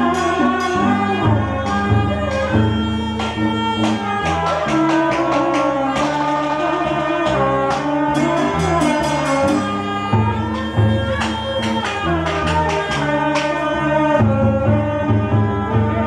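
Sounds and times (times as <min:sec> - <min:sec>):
drum strikes: 0:00.0 - 0:15.5
wind instrument melody: 0:00.0 - 0:16.0.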